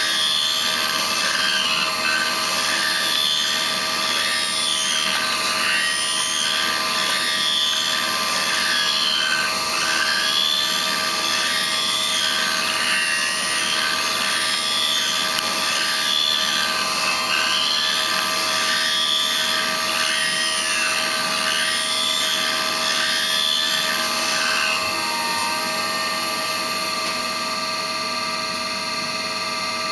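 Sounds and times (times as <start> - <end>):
grinding spindle whine: 0.0 - 29.9.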